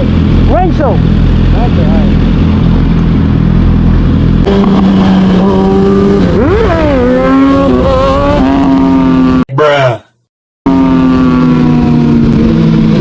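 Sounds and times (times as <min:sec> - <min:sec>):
motorcycle engine revving: 0:00.0 - 0:09.5, 0:10.7 - 0:13.0.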